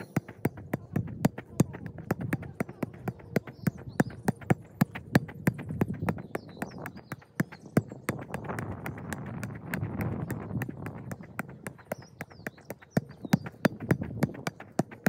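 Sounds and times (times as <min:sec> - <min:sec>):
hollow football thumps: 0:00.0 - 0:15.0.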